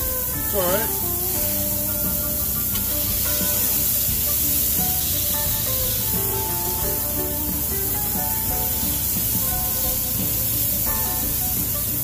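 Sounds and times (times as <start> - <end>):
background music: 0.0 - 12.0
patties sizzling on griddle: 0.0 - 12.0.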